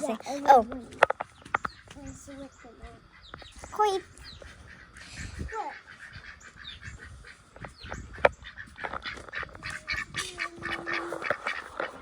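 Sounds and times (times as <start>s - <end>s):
chickens clucking and squawking: 1.4s - 12.0s.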